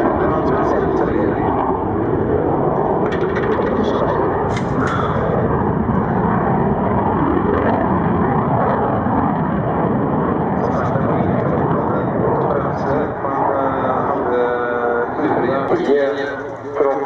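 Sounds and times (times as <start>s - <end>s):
jet engine rumble in flight: 0.0s - 17.0s.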